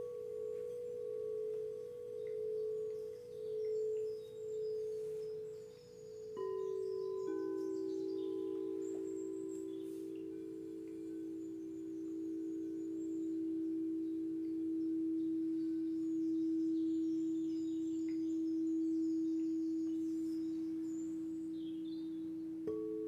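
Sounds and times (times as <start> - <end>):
faint bird chirps: 0.0 - 23.0
singing bowl ringing: 0.0 - 23.0.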